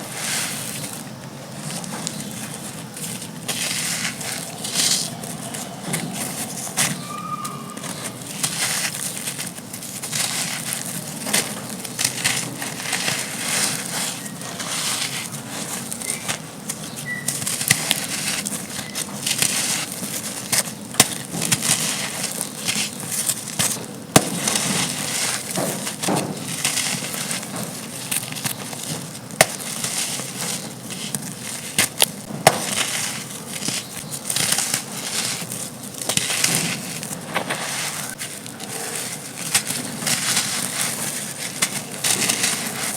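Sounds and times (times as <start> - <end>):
gritty sand-cement crumbling: 0.0 - 42.9.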